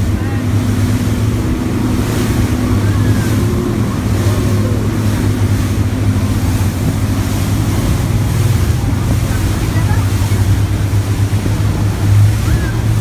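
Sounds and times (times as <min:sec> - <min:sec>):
motorboat engine drone: 0:00.0 - 0:13.0
rush of boat wake: 0:00.0 - 0:13.0
wind on microphone: 0:00.0 - 0:13.0.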